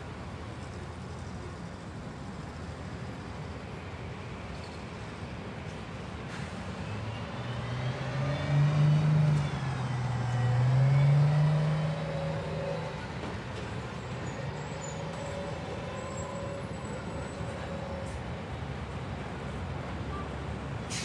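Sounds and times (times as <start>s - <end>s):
vehicle engine hum: 0.0s - 20.9s
rush of traffic: 0.0s - 21.0s.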